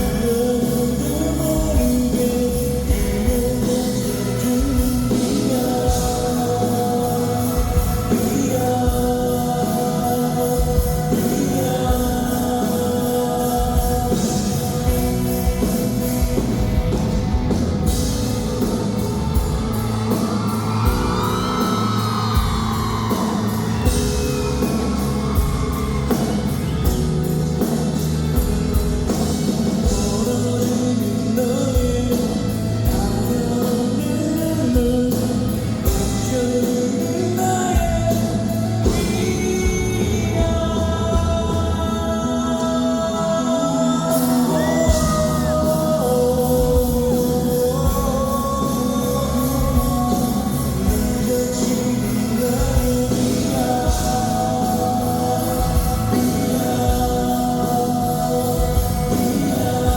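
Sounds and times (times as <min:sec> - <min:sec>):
drum-kit beat: 0:00.0 - 0:36.7, 0:44.2 - 0:59.9
live rock band: 0:00.0 - 0:59.9
male lead vocal: 0:00.0 - 0:59.9.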